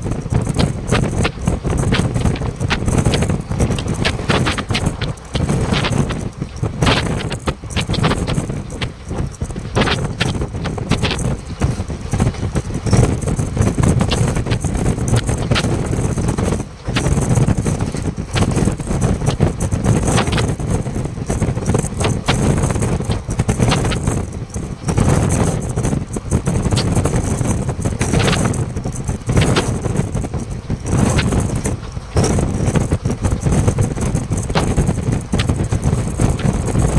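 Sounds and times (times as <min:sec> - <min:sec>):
train wheels rumbling on rails: 0:00.0 - 0:36.9
wind buffeting microphone: 0:00.0 - 0:36.9
sharp clacks: 0:00.1 - 0:36.9.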